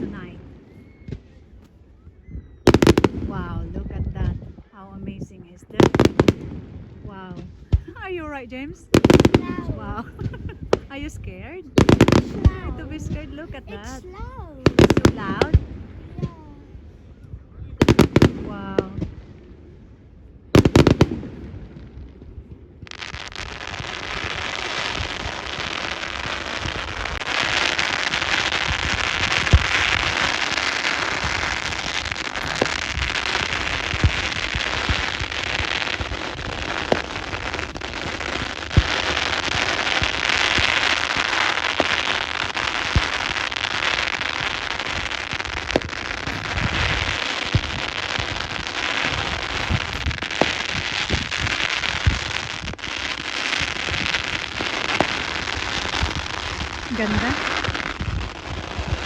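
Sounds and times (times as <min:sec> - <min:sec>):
fireworks crackling: 0:00.0 - 0:02.0, 0:02.6 - 0:17.0, 0:17.8 - 0:59.0
firework bangs: 0:00.0 - 0:59.0.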